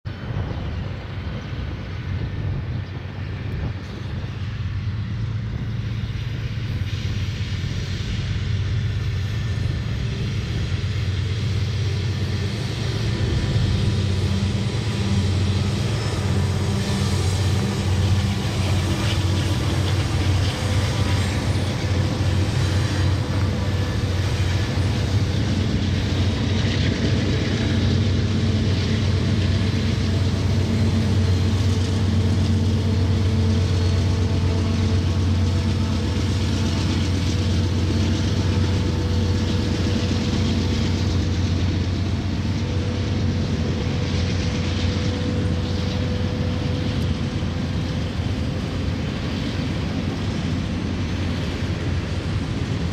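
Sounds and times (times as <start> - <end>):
diesel locomotive engine rumble: 0.0 - 52.9.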